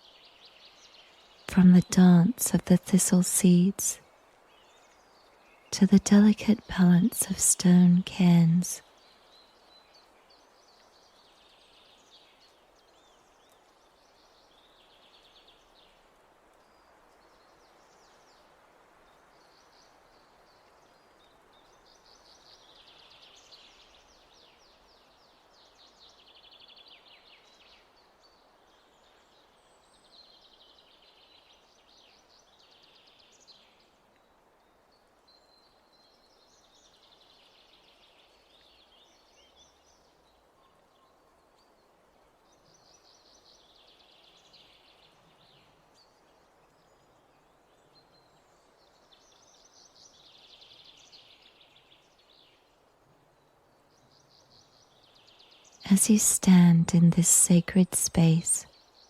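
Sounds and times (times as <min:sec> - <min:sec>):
soft hiss of nature ambience: 0:00.0 - 0:59.0
songbirds singing: 0:00.0 - 0:59.0.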